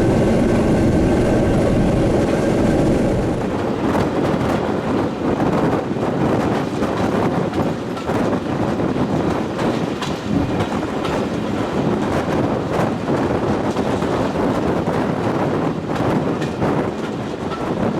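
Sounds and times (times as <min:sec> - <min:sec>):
train running on track: 0:00.0 - 0:17.9.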